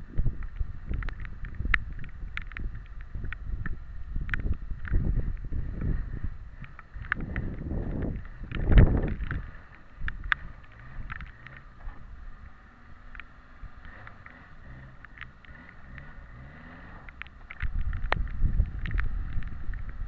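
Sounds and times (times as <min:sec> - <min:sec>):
off-road vehicle engine at low revs: 0:00.0 - 0:20.0
sharp clicks and knocks: 0:00.3 - 0:06.0, 0:06.6 - 0:12.0, 0:13.0 - 0:20.0.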